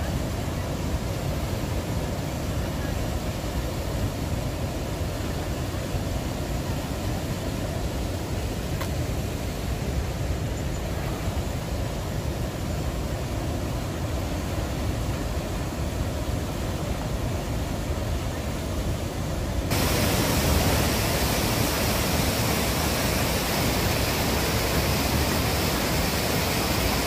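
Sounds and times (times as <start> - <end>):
river water rushing: 0.0 - 27.0
waterfall roaring: 0.0 - 27.0.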